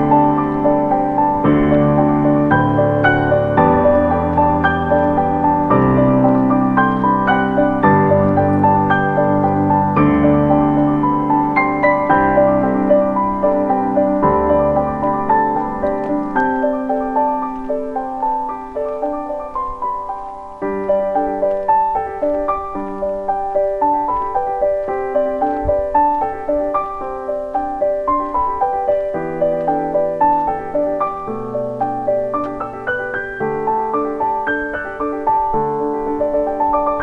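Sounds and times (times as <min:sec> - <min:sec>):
slow piano melody: 0:00.0 - 0:37.0.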